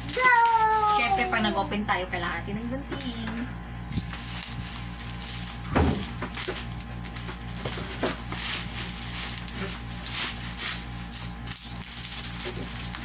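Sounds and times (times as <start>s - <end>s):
plastic packaging rustling: 0.0s - 1.7s, 3.8s - 13.0s.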